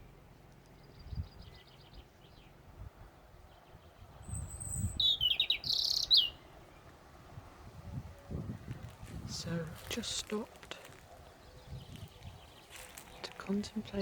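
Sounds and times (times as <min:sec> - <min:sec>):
robin singing: 0:00.6 - 0:07.0, 0:09.1 - 0:14.0.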